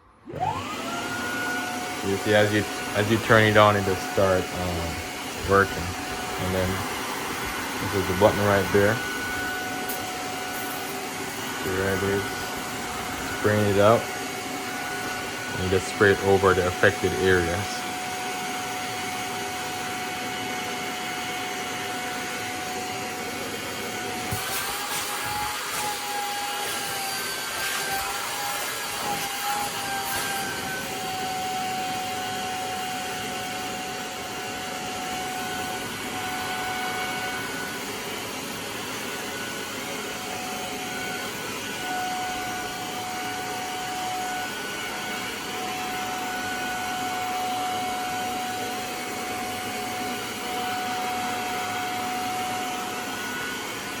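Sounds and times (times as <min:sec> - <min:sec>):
spot cleaner motor whining: 0:00.0 - 0:54.0.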